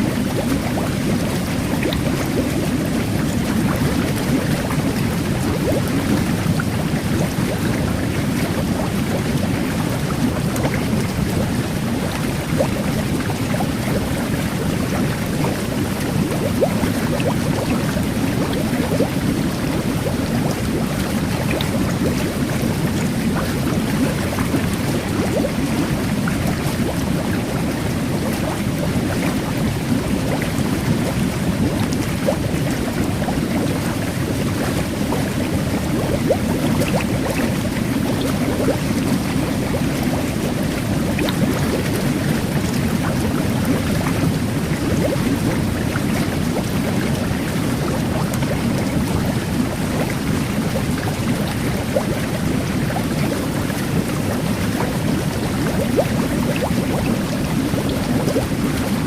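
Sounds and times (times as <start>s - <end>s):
bath water churning: 0.0s - 59.0s
micro-bubbles fizzing: 0.0s - 59.0s.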